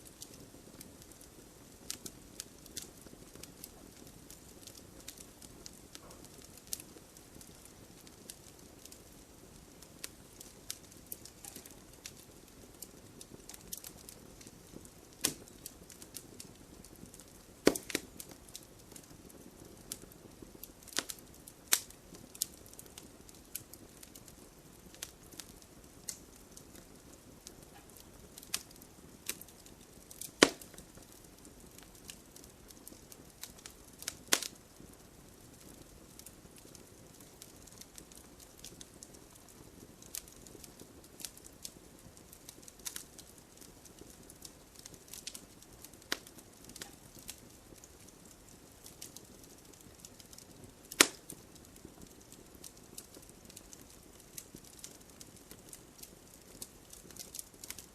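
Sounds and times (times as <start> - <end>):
firewood crackling and popping: 0.0 - 57.9
low steady fire hiss: 0.0 - 57.9.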